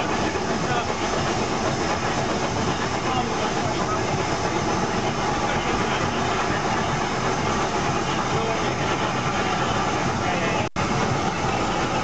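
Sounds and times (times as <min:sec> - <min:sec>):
steam locomotive working: 0:00.0 - 0:12.0.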